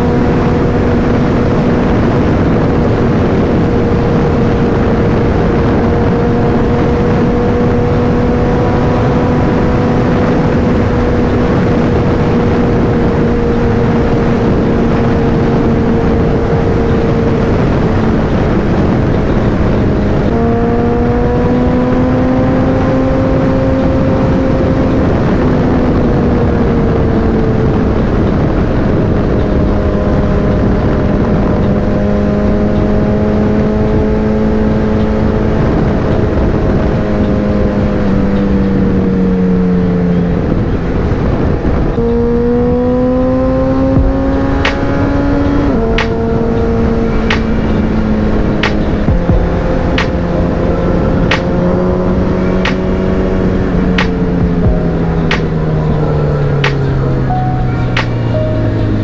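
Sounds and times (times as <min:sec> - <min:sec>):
motorcycle engine at speed: 0:00.0 - 0:59.0
wind noise: 0:00.0 - 0:59.0.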